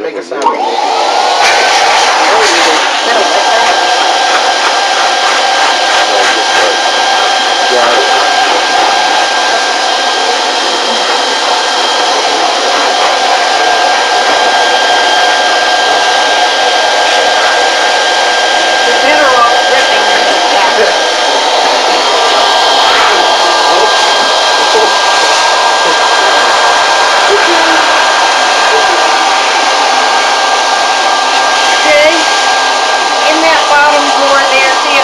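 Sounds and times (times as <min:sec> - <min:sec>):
blow dryer running: 0:00.0 - 0:35.0.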